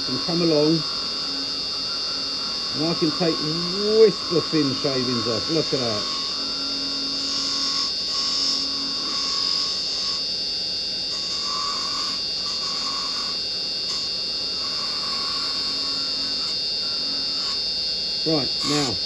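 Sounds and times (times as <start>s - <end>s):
chisel cutting hiss: 0.0s - 19.0s
wood lathe whining: 0.0s - 19.0s.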